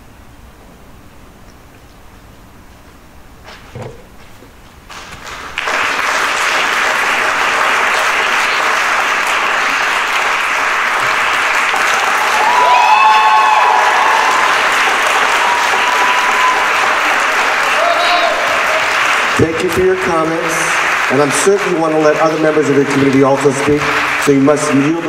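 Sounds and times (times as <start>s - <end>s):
audience applauding: 4.9s - 25.0s.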